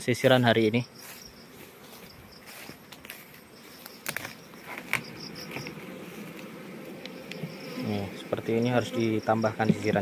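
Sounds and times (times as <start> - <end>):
bees buzzing: 0.1 - 10.0.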